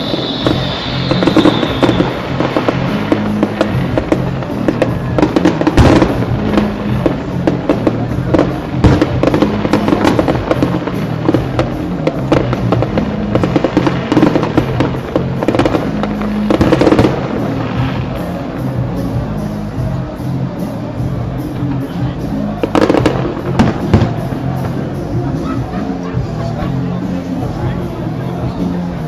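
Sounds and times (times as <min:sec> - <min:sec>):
fireworks banging and crackling: 0:00.0 - 0:29.0
music playing: 0:00.0 - 0:29.0.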